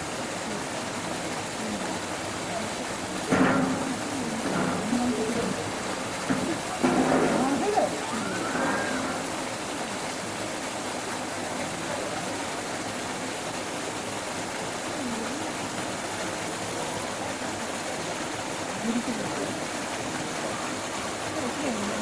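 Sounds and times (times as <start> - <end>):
faint distant voices: 0.0 - 22.0
flowing water rushing: 0.0 - 22.0.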